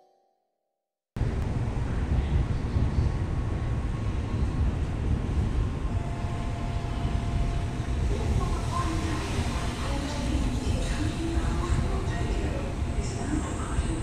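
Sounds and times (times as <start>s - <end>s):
station platform rumble and hiss: 1.2s - 14.0s.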